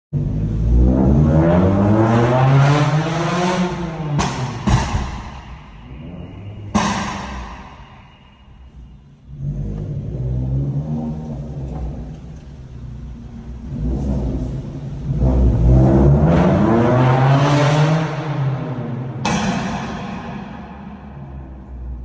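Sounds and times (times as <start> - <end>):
car engine revving: 0.2 - 22.0.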